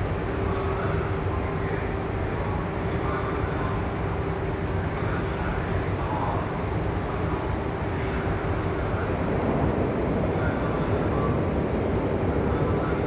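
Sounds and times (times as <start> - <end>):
ship engine low rumble: 0.0 - 13.0
steady hum: 0.0 - 13.0.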